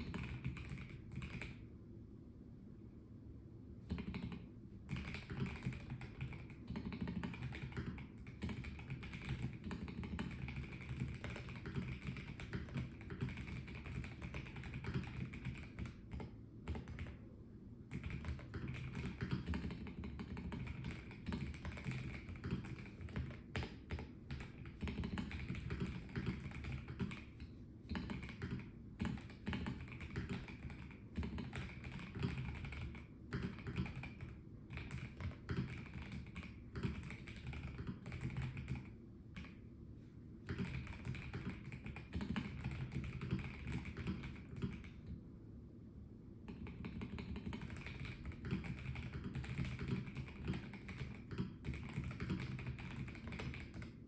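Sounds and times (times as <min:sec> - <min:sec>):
mechanical keyboard typing: 0:00.0 - 0:01.6, 0:03.9 - 0:17.2, 0:17.9 - 0:39.6, 0:40.5 - 0:45.2, 0:46.5 - 0:54.0.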